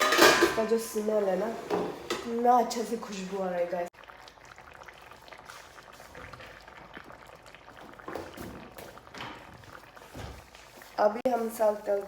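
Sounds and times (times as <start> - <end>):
food bubbling and sizzling in pan: 0.7 - 12.0.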